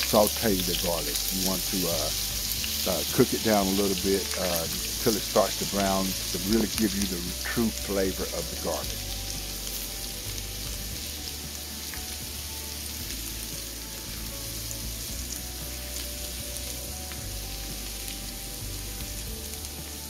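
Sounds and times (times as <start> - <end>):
garlic sizzling in butter: 0.0 - 20.0.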